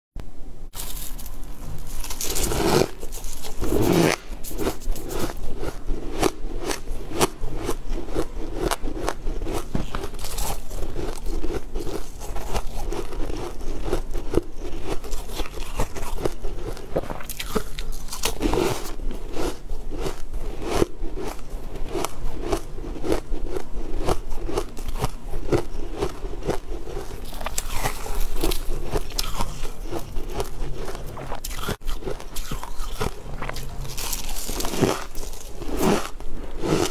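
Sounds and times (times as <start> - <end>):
crunching frozen blocks: 0.8 - 36.9.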